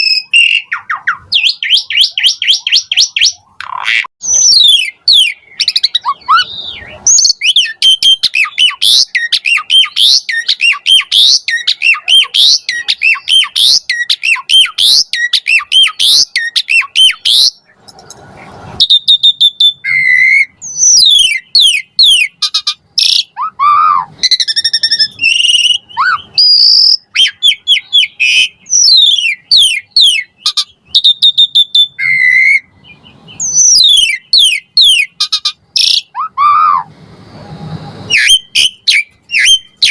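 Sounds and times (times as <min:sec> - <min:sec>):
starling singing: 0:00.0 - 0:36.9, 0:38.1 - 0:39.9.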